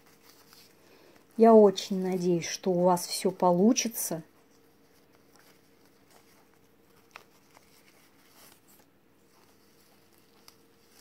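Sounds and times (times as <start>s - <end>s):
faint steady hum: 0.0s - 11.0s
ribbon rustling: 0.0s - 11.0s.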